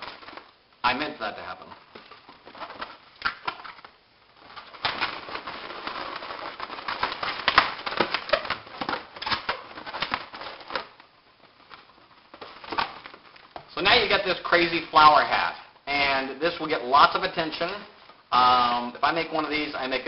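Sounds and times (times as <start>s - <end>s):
balloons squeaking and crackling: 0.0s - 20.0s.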